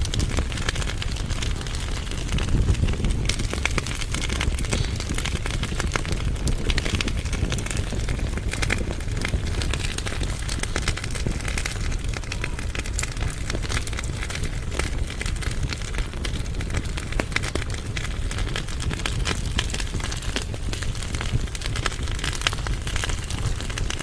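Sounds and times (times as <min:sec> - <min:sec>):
firewood crackling and popping: 0:00.0 - 0:24.0
low rush of flames: 0:00.0 - 0:24.0.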